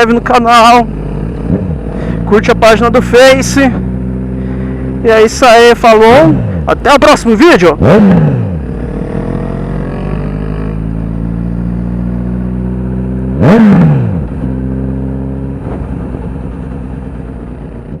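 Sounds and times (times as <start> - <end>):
motorcycle engine revving: 0.0 - 18.0
motorcycle engine running: 0.0 - 18.0.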